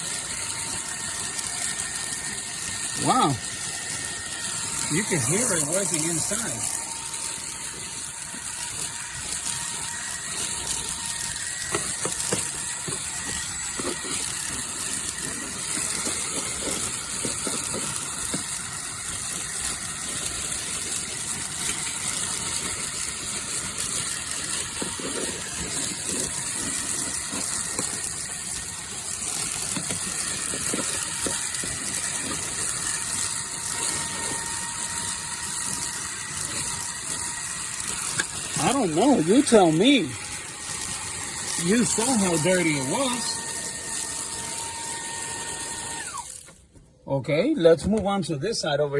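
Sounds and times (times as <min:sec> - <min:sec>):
grit rattling through vacuum nozzle: 0:00.0 - 0:46.6
handheld vacuum whine: 0:00.0 - 0:48.9.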